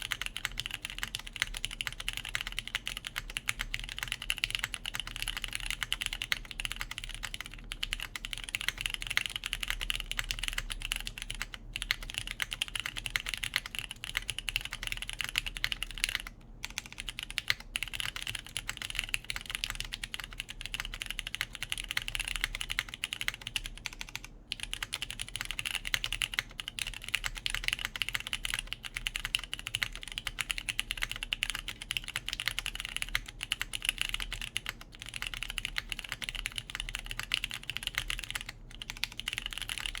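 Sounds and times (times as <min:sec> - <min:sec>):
fast typing on mechanical keyboard: 0:00.0 - 0:40.0.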